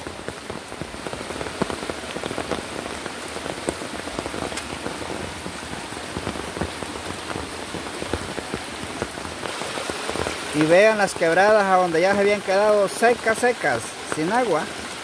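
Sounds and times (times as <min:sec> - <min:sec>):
rain falling: 0:00.0 - 0:15.0
river rushing: 0:00.0 - 0:15.0.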